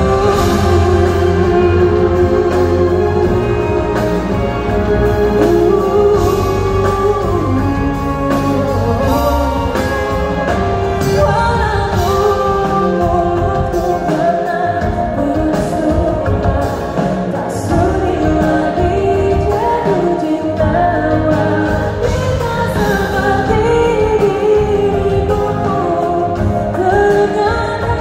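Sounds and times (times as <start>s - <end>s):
female singer singing: 0.0s - 28.0s
live pop band playing: 0.0s - 28.0s.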